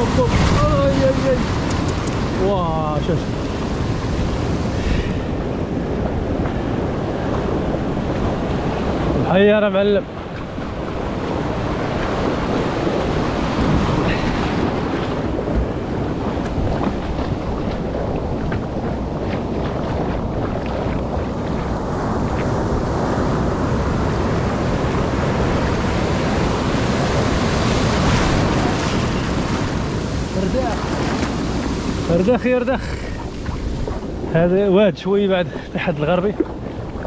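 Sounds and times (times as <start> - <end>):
surf breaking: 0.0 - 37.0
wind on microphone: 0.0 - 37.0.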